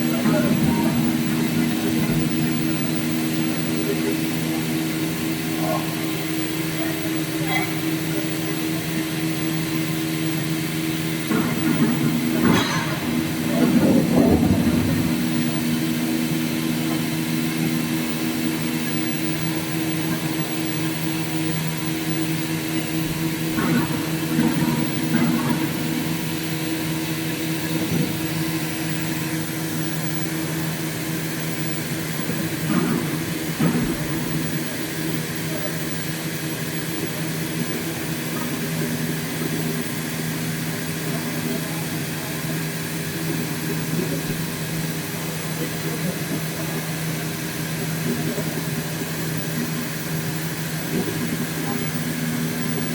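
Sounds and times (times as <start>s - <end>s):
machine humming: 0.0s - 52.9s.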